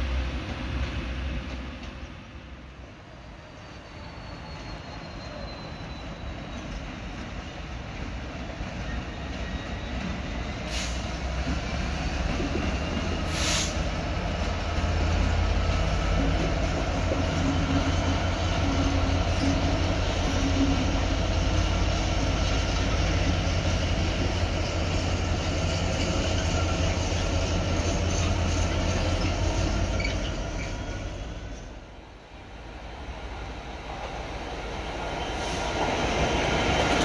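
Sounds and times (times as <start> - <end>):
diesel locomotive engine drone: 0.0 - 37.0.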